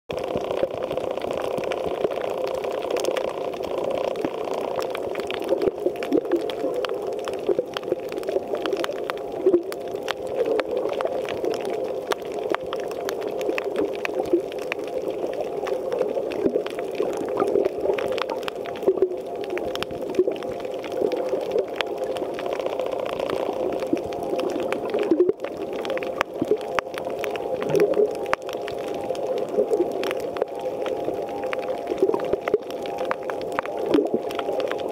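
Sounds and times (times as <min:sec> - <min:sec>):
underwater water noise drone: 0:00.1 - 0:34.9.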